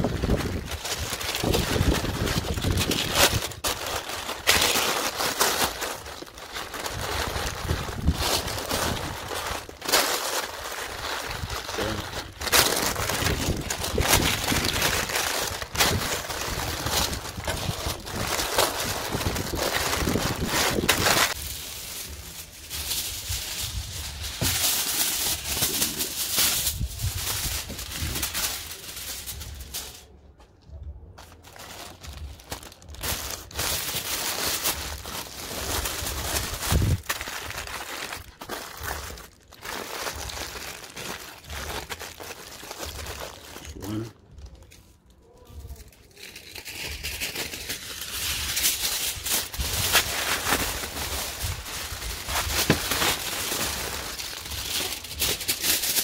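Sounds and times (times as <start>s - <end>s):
paper and foil crinkling: 0.0s - 56.0s.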